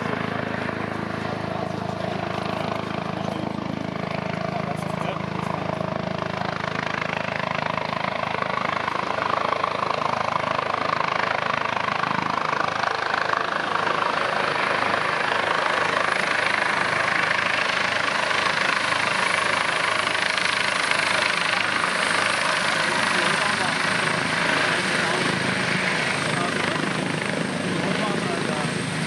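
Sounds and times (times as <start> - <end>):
helicopter rotor and turbine noise: 0.0 - 29.0.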